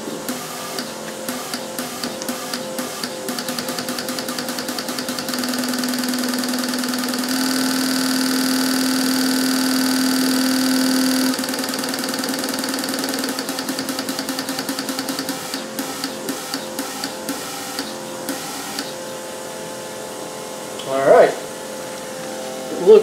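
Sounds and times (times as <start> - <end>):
steady hum: 0.0 - 23.0
relay clicking rapidly: 0.2 - 19.1.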